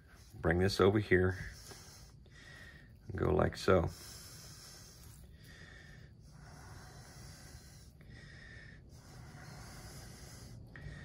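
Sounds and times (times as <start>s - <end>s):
faint breathing through nose: 0.0s - 11.0s
low room noise: 0.0s - 11.0s.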